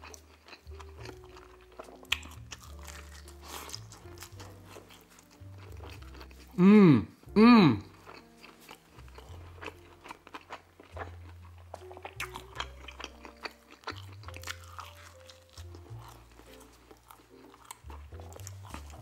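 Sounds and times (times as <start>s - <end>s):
close-miked chewing: 0.0s - 19.0s
quiet background music: 0.0s - 19.0s.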